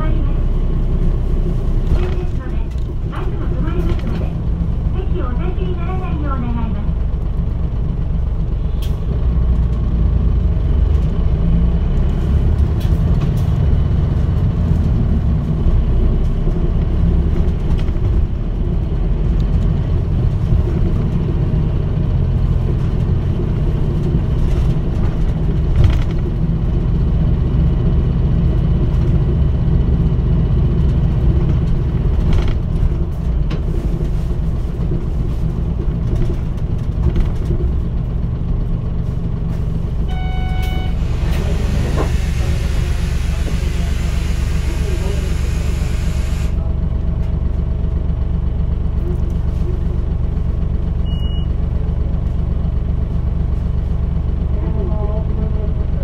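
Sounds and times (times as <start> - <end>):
bus body rattles: 0.0 - 55.6
bus diesel engine running: 0.0 - 56.0.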